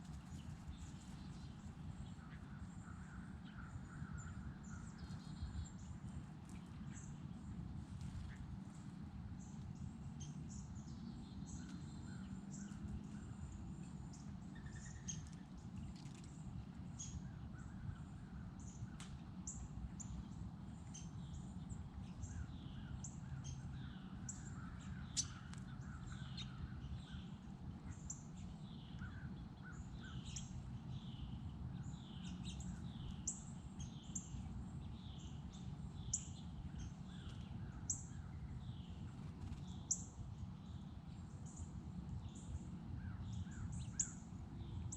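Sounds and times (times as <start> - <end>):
low background rumble: 0.0 - 44.9
wild birds chirping: 0.0 - 44.9.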